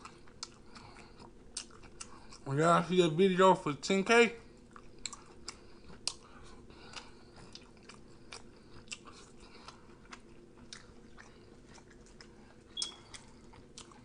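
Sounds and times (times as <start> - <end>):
wet chewing with mouth clicks: 0.0 - 2.5, 4.4 - 14.0.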